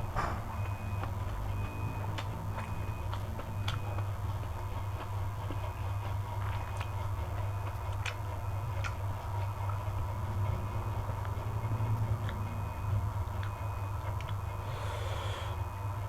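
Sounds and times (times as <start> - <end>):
steady low hum: 0.0 - 16.0
crisp chewing crunches: 0.4 - 15.0.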